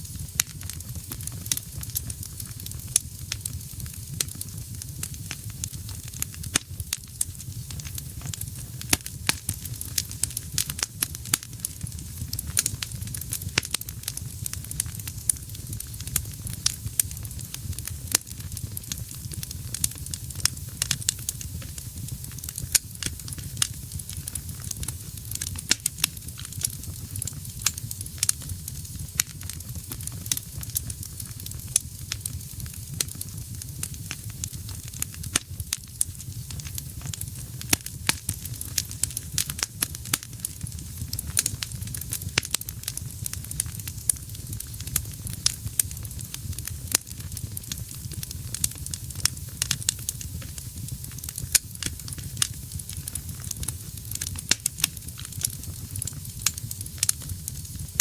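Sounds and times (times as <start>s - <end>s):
fire flame rumble and hiss: 0.0s - 58.0s
logs crackling and popping: 0.0s - 58.0s.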